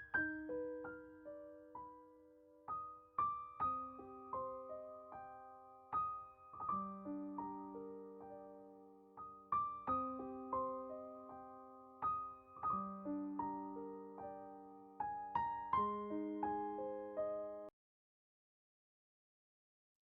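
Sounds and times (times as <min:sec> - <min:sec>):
gentle solo piano: 0:00.0 - 0:17.7.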